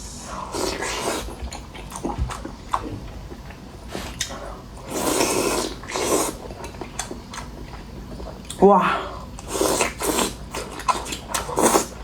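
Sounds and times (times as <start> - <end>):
person chewing and slurping: 0.1 - 12.0.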